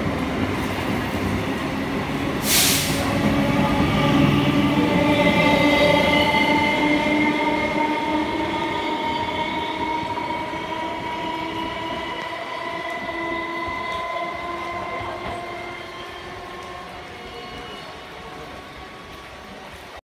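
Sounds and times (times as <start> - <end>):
electric train whine and rumble: 0.0 - 20.0.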